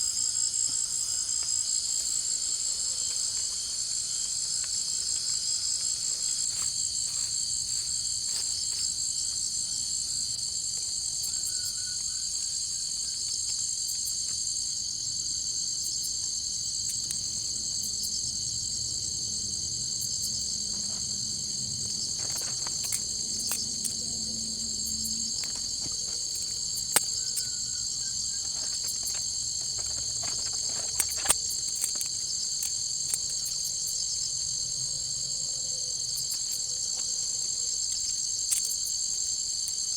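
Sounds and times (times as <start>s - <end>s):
shrill insect chorus: 0.0s - 39.9s.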